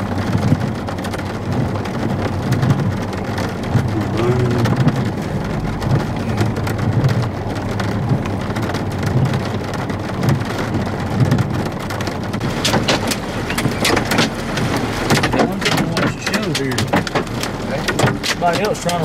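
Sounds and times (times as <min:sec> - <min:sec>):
low rumble: 0:00.0 - 0:15.6
heavy rain on a vehicle: 0:00.0 - 0:19.0.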